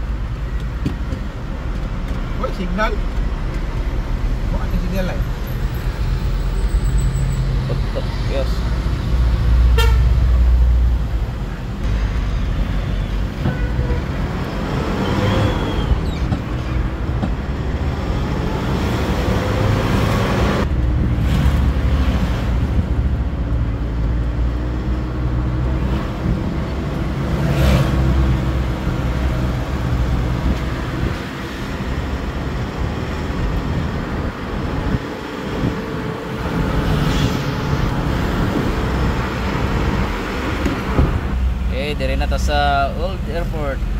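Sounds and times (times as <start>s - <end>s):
road noise: 0.0s - 43.9s.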